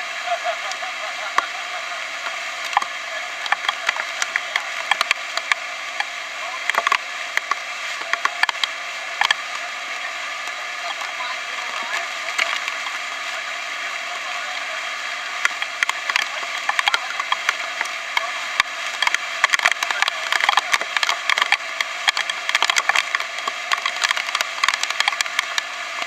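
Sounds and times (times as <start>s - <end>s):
raindrops hitting camera: 0.0s - 26.0s.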